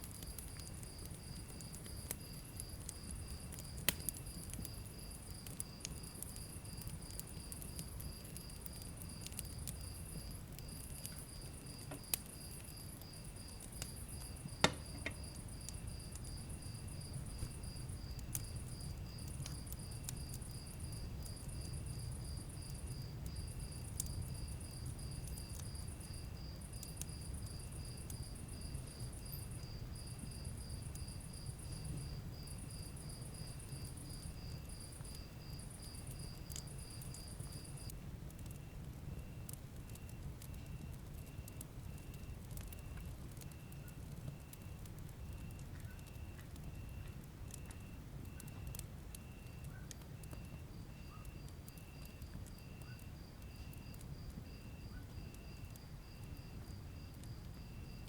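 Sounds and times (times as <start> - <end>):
cricket chirping: 0.0 - 58.0
wood fire crackling and popping: 0.0 - 58.0.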